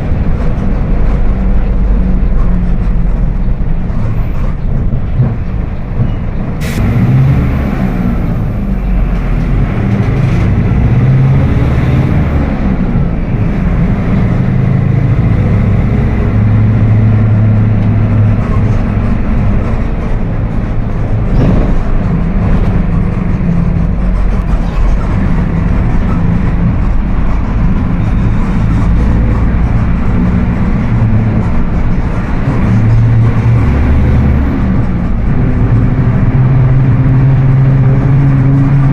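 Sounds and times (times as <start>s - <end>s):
bus engine growling: 0.0s - 38.9s.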